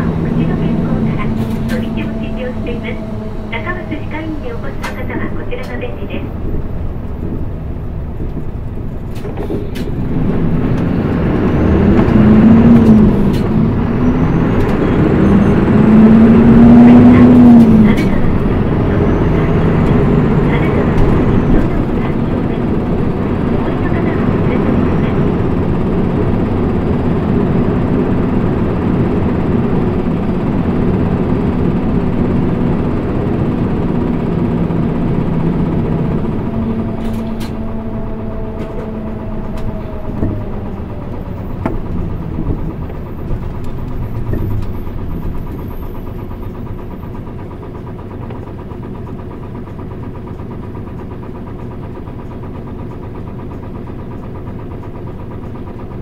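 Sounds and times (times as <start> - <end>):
road noise: 0.0 - 48.5
bus diesel engine: 0.0 - 56.0.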